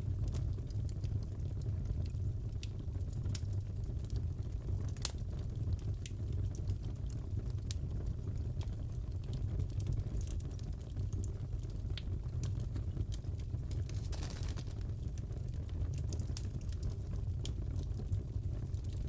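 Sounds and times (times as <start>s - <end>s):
fire popping and snapping: 0.0s - 19.0s
fireplace fire rumbling: 0.0s - 19.0s.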